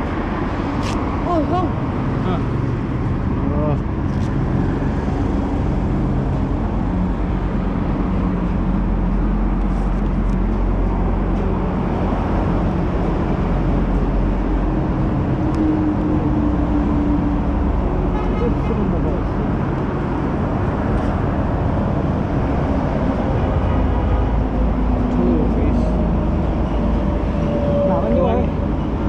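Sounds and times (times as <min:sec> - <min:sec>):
road traffic noise: 0:00.0 - 0:29.0
vehicle engine: 0:00.0 - 0:29.0.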